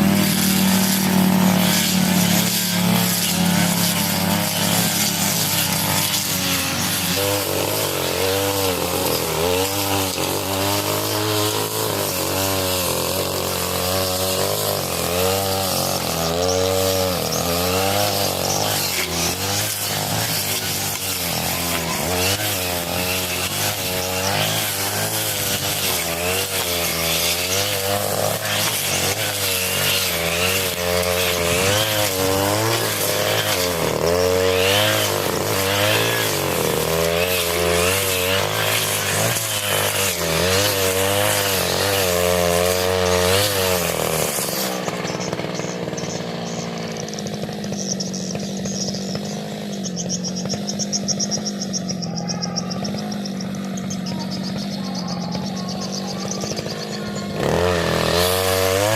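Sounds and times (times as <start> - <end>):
brush cutter cutting grass: 0.0 - 58.9.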